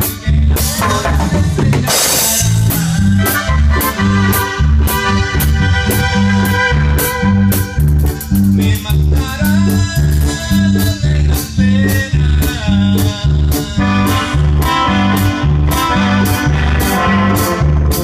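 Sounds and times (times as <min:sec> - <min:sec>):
band music: 0:00.0 - 0:18.0
bouncing bass line: 0:00.0 - 0:18.0
lead melody: 0:00.6 - 0:12.1, 0:12.9 - 0:18.0.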